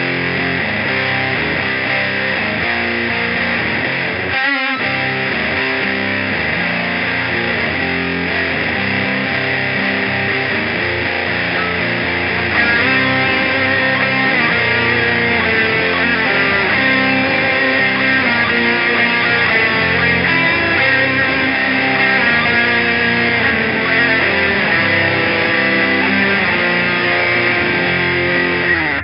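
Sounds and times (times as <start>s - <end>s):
distorted electric guitar chords: 0.0s - 29.0s
wavering guitar sweep: 0.0s - 29.0s.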